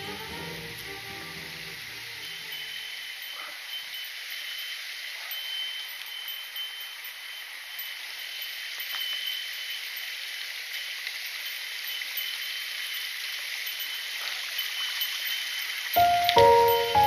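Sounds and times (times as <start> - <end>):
faint high ringing tone: 1.0 - 17.0.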